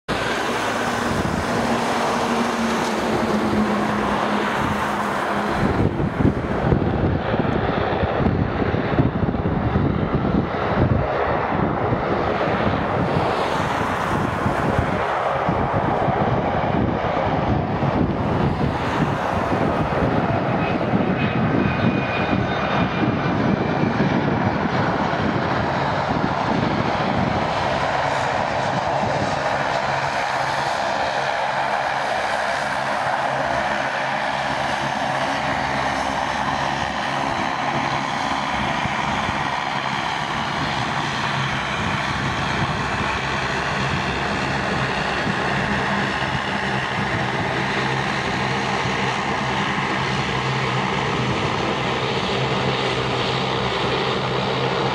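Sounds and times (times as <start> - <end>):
jet airliner engines rumbling: 0.0 - 54.9.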